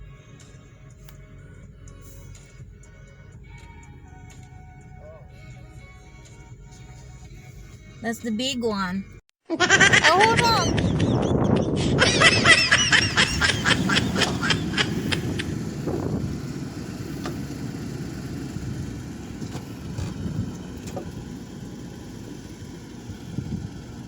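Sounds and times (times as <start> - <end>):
vehicle engine running low: 0.0 - 8.3, 9.9 - 24.0.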